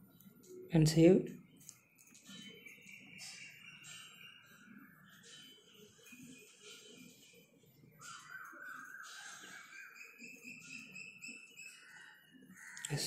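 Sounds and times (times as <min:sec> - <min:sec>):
short repeated bird chirps: 0:01.4 - 0:12.9
faint bird calls: 0:01.6 - 0:13.0.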